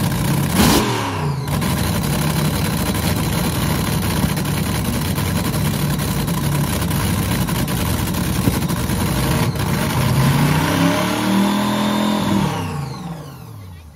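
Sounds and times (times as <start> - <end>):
engine idling and revving: 0.0 - 13.9.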